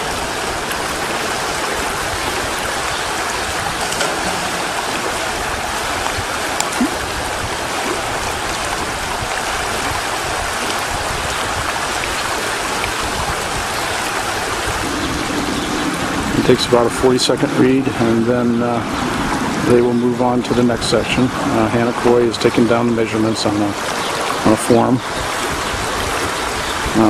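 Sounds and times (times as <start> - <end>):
river rushing: 0.0 - 22.4, 23.2 - 27.0.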